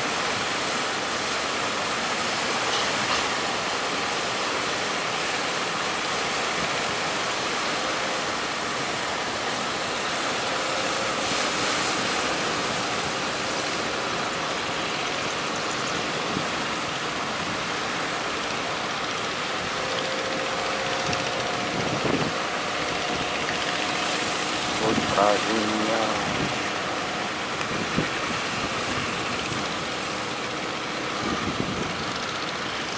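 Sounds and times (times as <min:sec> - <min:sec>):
faint boat engine hum: 0:00.0 - 0:32.9
surf rushing: 0:00.0 - 0:32.9
strong wind: 0:03.0 - 0:32.9.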